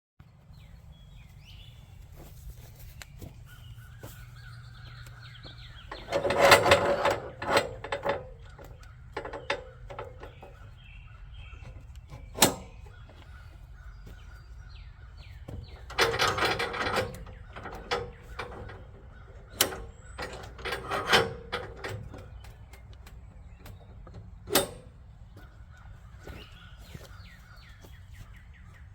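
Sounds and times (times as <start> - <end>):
small birds chirping: 0.2 - 28.9.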